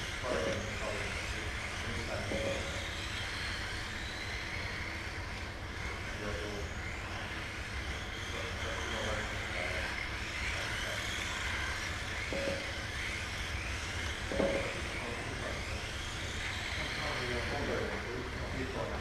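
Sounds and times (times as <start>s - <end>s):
electric toy car motors whining: 0.0s - 19.0s.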